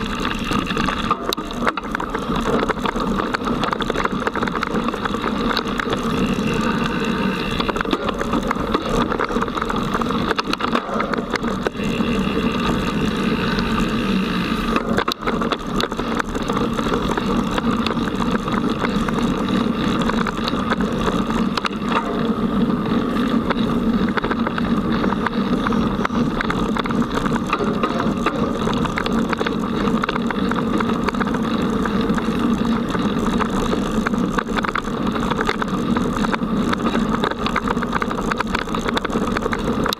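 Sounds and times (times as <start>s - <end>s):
bike rattling over dirt trail: 0.0s - 39.9s.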